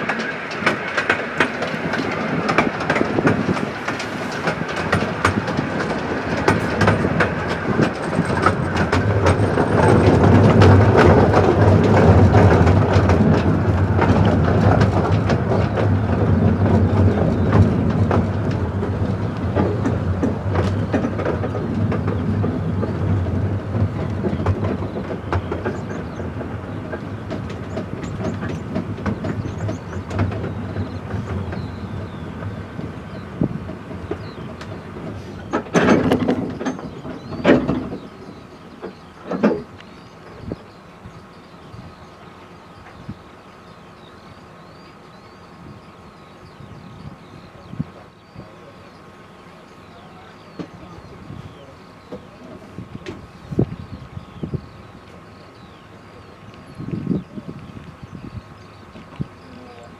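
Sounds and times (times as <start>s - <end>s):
train carriage rumbling: 0.0s - 59.9s
wheels clicking over rail joints: 0.0s - 59.9s.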